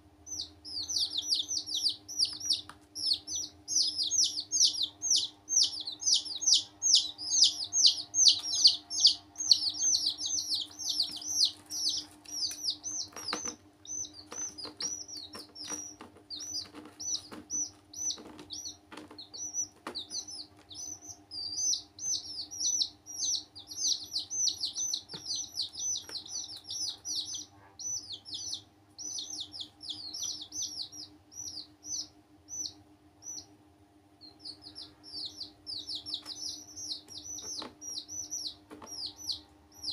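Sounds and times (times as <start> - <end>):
baby chicks peeping: 0.0 - 39.9
faint steady hum: 0.0 - 39.9.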